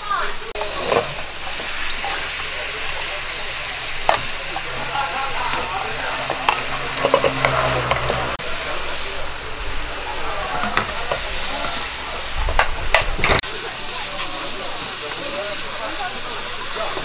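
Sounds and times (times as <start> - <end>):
batter sizzling in frying pan: 0.0 - 17.0.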